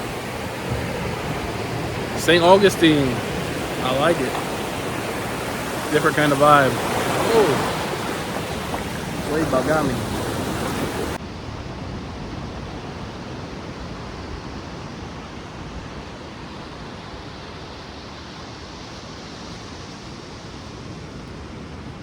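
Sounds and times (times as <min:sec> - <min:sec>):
ocean surf washing: 0:00.0 - 0:17.8.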